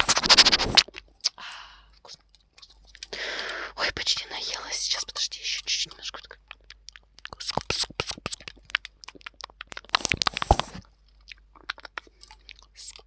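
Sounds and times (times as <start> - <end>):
crunchy chewing noises: 0.0 - 13.0
wet mouth clicks: 0.0 - 13.0.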